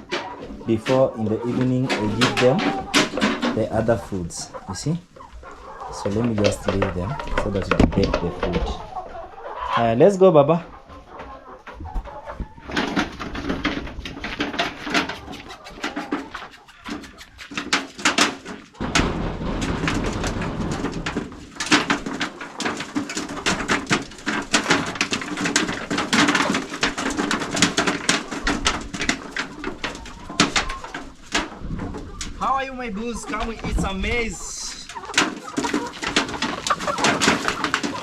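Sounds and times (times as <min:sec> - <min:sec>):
chickens cooing softly: 0:00.0 - 0:38.0
chickens pecking: 0:00.0 - 0:38.0.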